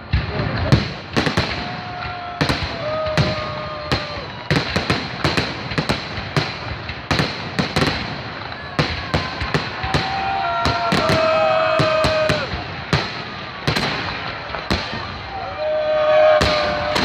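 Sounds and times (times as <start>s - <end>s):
fireworks bangs: 0.0s - 17.0s
high whistling fireworks: 0.0s - 17.0s.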